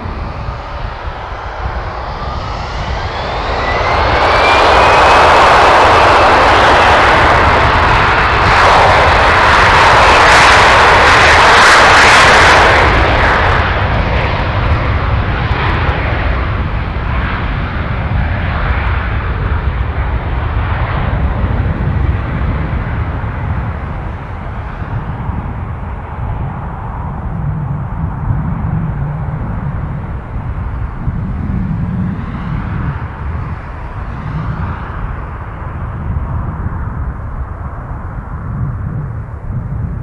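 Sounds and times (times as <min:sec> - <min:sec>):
jet engine roar: 0:00.0 - 0:40.0
low jet rumble: 0:00.0 - 0:40.0.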